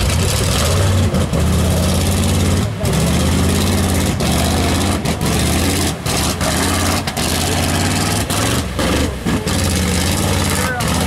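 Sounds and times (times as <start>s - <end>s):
engine running hard: 0.0s - 11.0s
vehicle churning through mud: 0.0s - 11.0s.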